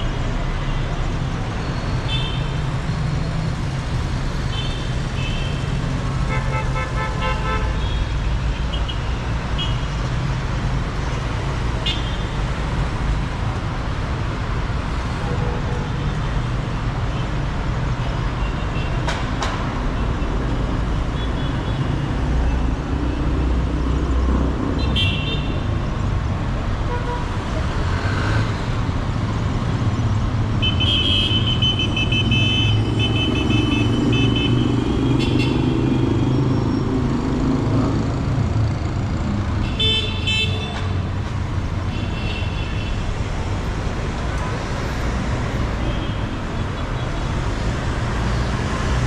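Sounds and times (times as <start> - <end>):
traffic engines rumbling: 0.0 - 49.0.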